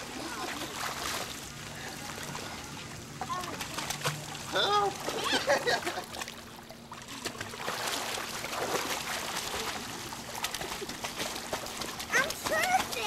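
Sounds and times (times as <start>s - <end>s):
dog swimming in water splashing: 0.0s - 13.0s.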